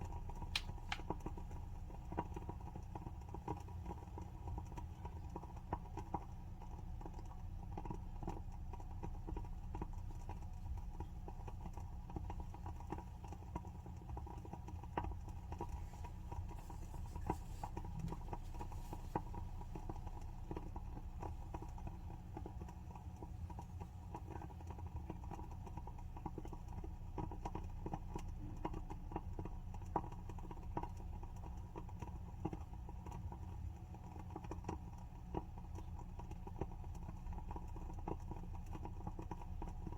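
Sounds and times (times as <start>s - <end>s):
steady low hum: 0.0s - 39.9s
wooden candle wick crackling: 0.0s - 39.9s.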